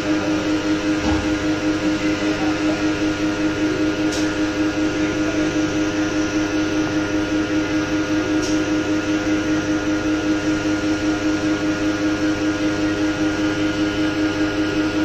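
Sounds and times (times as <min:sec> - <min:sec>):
lathe machine humming: 0:00.0 - 0:15.0.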